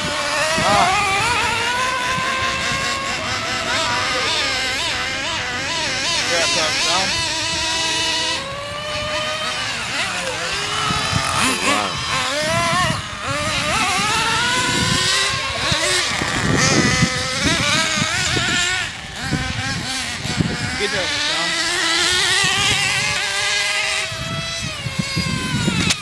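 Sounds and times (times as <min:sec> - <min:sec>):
small engines revving hard: 0:00.0 - 0:26.0.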